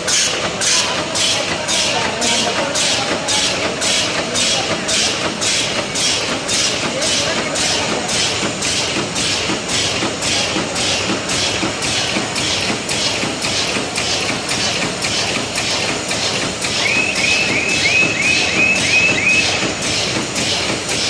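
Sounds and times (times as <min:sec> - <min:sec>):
bag-making machine running: 0:00.0 - 0:21.0.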